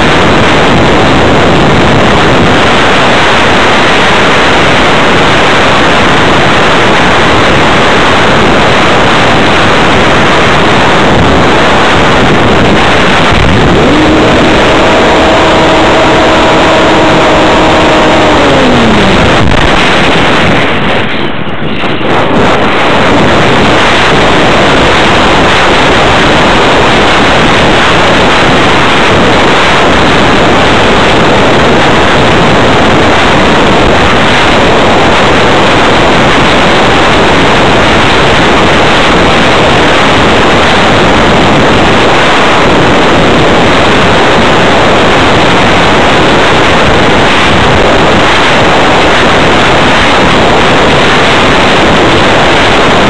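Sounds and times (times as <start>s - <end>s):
airflow buffeting microphone: 0.0s - 53.0s.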